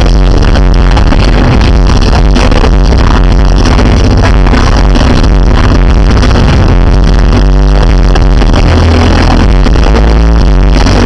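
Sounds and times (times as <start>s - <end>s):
live pop music with heavy beat: 0.0s - 11.0s.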